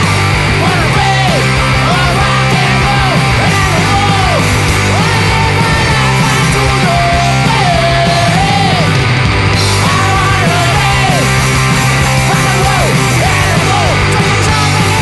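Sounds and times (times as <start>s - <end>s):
rock band with electric guitars: 0.0s - 15.0s.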